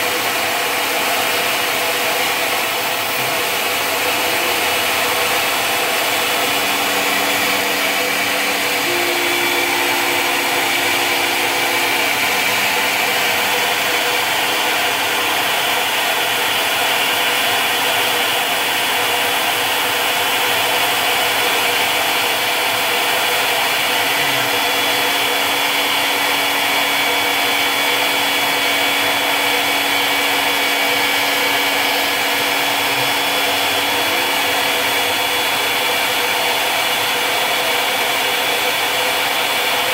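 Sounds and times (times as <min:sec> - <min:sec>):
cutter milling hiss: 0:00.0 - 0:39.9
machine high whine: 0:00.0 - 0:39.9.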